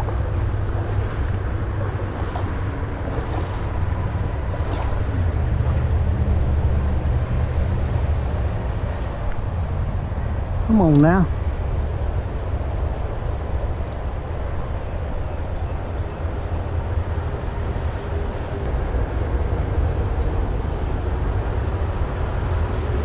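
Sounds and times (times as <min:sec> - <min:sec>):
distant vehicle traffic rumble: 0:00.0 - 0:23.0
faint engine hum: 0:00.0 - 0:23.0.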